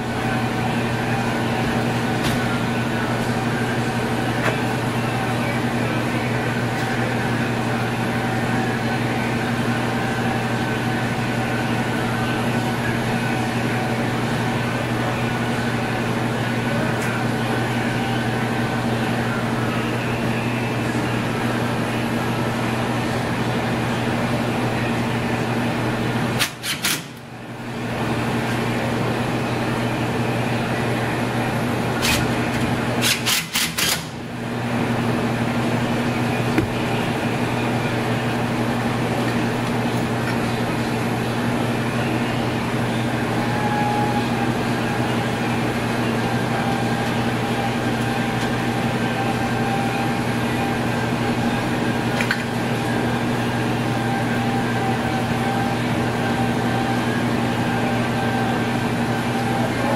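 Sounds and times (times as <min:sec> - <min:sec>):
vending machine electrical hum: 0:00.0 - 0:59.9.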